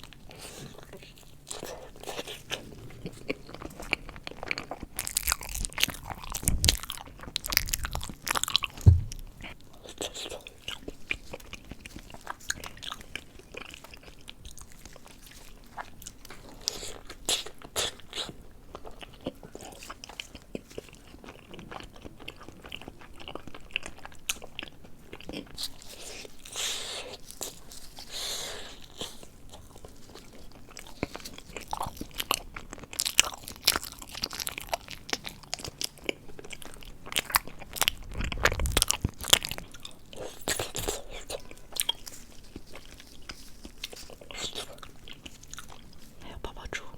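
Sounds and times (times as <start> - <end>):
crisp crunching and chewing: 0.0 - 46.9.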